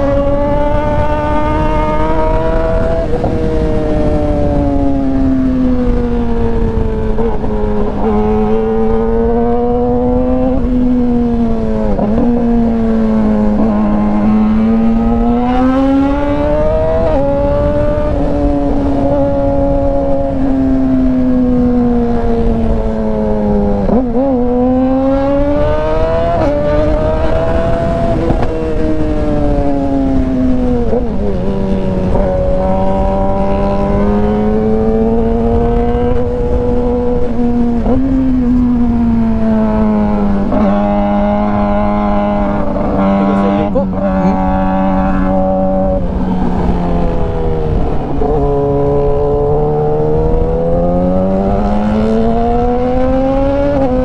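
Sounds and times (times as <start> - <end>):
low wind rumble: 0.0 - 54.0
motorcycle engine revving: 0.0 - 54.0.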